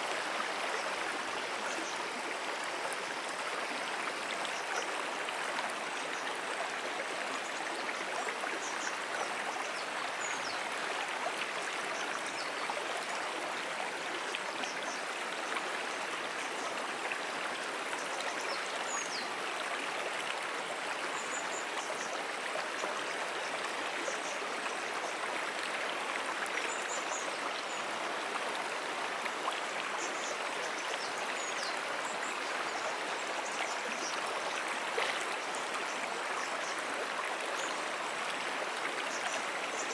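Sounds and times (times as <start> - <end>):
brook water flowing: 0.0 - 39.9.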